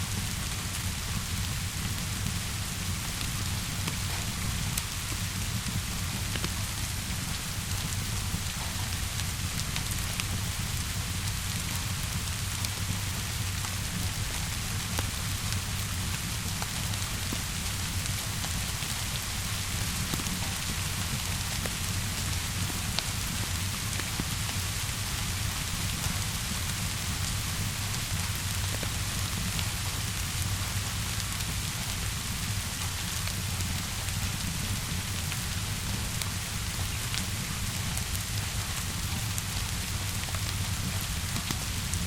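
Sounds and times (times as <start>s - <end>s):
steady rainfall: 0.0s - 42.0s
fire crackling: 0.2s - 42.0s.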